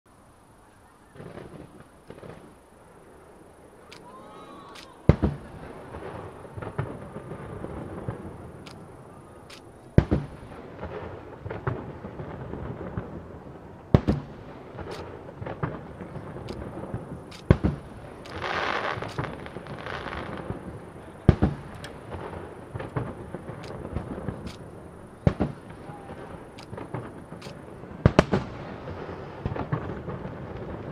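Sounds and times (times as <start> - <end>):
firework booms: 1.1 - 3.2, 4.7 - 30.9
firework crackling pops: 1.1 - 30.9.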